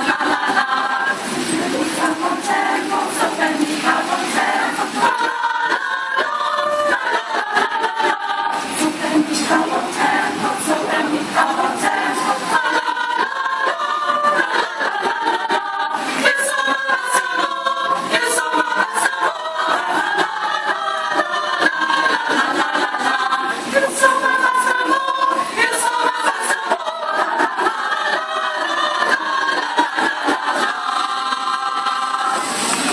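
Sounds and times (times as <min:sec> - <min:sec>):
choir singing in harmony: 0:00.0 - 0:32.9.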